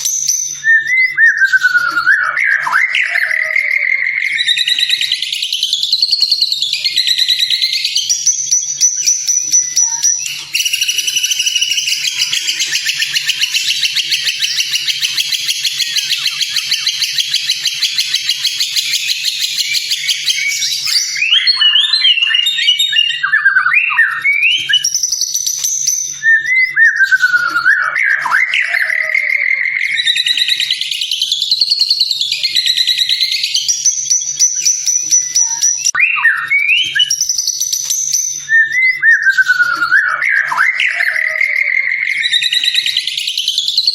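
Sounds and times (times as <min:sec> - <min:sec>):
whistled bird phrases: 0:00.0 - 0:43.9.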